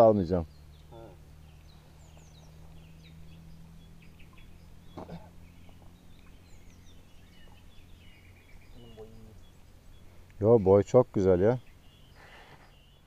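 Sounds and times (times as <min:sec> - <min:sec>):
faint low hum: 0:00.0 - 0:13.0
songbirds chirping: 0:00.0 - 0:13.0.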